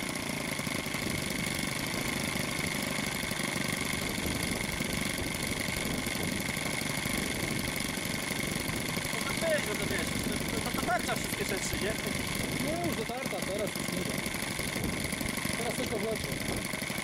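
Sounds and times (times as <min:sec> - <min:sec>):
model plane engine idling: 0:00.0 - 0:17.0.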